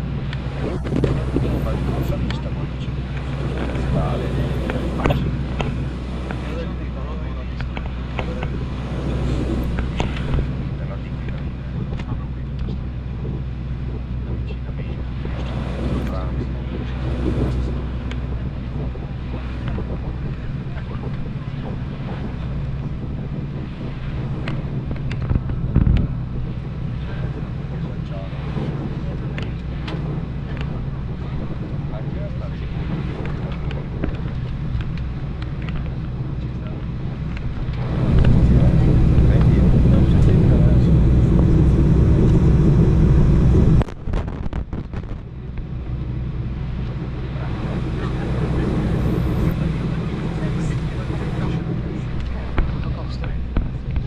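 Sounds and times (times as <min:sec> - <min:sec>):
heavy low thump: 0:00.0 - 0:54.0
jet engines humming: 0:00.0 - 0:54.0.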